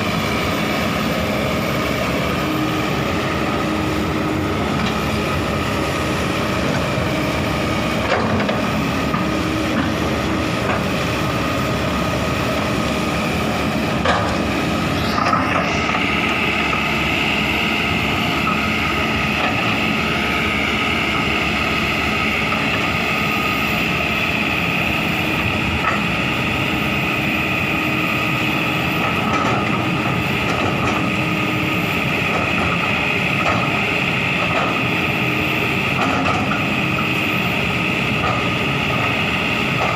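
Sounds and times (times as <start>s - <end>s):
excavator diesel engine running: 0.0s - 39.9s
high steady whine: 0.0s - 39.9s.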